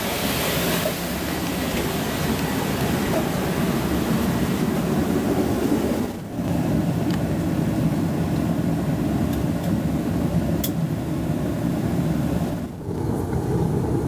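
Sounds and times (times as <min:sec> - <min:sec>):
jet airliner rumble: 0:00.0 - 0:14.0.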